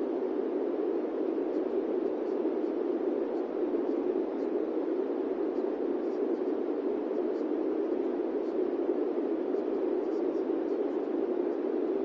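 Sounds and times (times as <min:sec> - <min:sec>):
steady white noise: 0:00.0 - 0:12.0.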